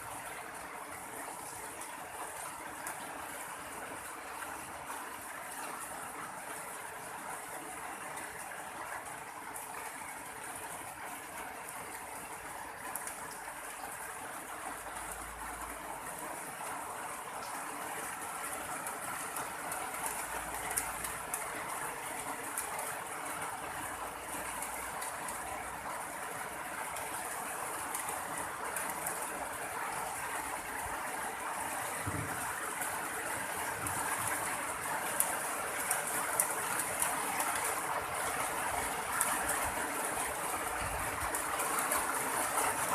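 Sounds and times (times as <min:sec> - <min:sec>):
rain falling: 0:00.0 - 0:42.9.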